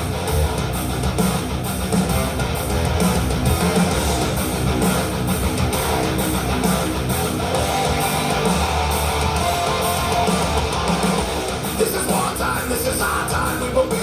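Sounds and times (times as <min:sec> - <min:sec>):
guitar-driven music: 0:00.0 - 0:14.0.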